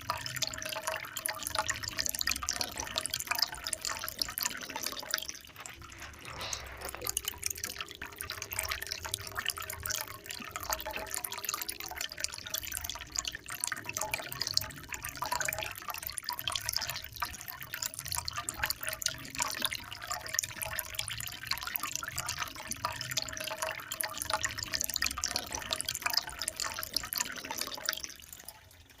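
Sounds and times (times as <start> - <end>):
water trickling and dripping: 0.0 - 29.0.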